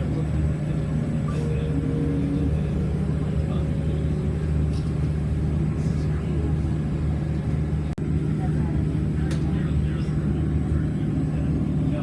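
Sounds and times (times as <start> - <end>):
submarine machinery hum: 0.0 - 12.0.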